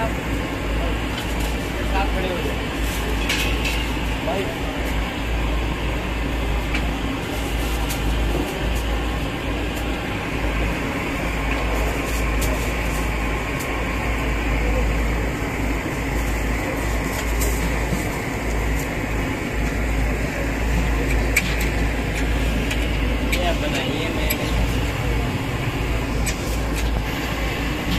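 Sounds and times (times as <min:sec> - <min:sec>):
background hum and hiss: 0:00.0 - 0:27.9.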